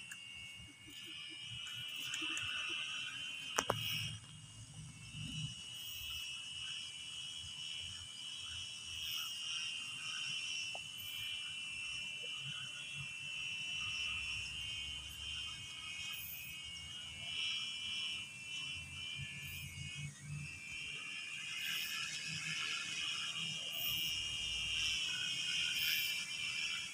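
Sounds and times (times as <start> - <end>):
crickets and frogs trilling: 0.2 - 26.9.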